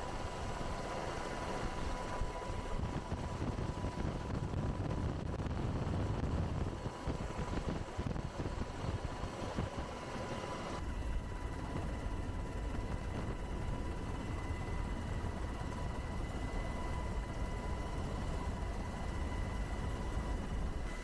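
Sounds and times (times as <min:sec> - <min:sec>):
helicopter rumble with high whine: 0:00.0 - 0:21.0.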